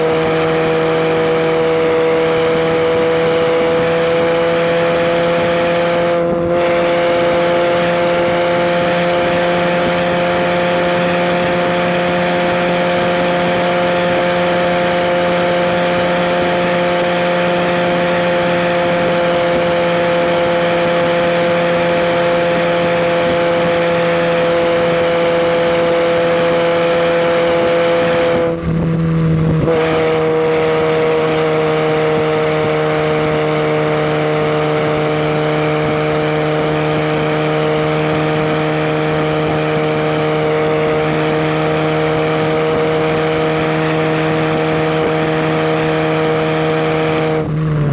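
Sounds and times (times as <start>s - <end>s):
car engine running hard: 0.0s - 47.9s.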